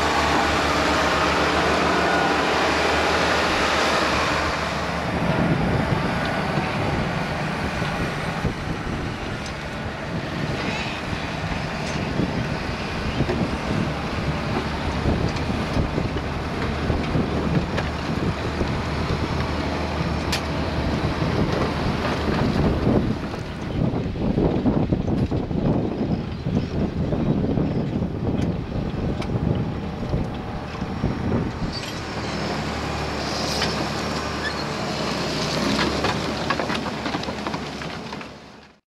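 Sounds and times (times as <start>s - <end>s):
wind buffeting microphone: 0.0s - 34.4s
tractor engine running: 0.0s - 38.8s.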